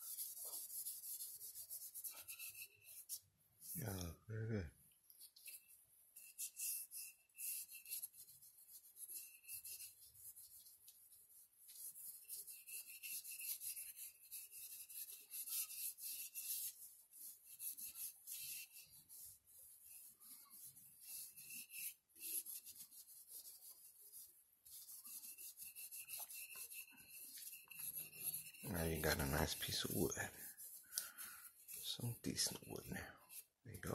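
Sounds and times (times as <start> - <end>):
cloth rubbing on wood: 0.0 - 4.0, 5.2 - 33.9.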